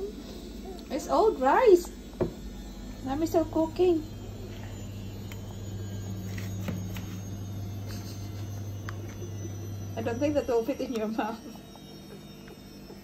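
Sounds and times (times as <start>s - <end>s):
appliance electrical hum: 0.0s - 13.0s.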